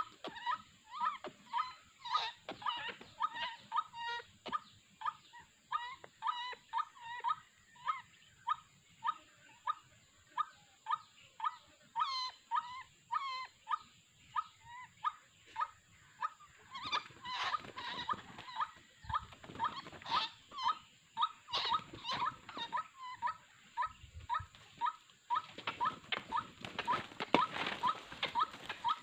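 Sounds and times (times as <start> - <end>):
background noise: 0.0 - 29.0.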